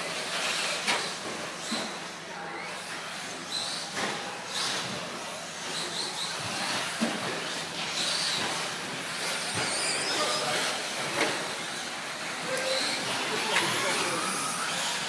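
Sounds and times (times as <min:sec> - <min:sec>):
toy car motors whining: 0:00.0 - 0:15.0.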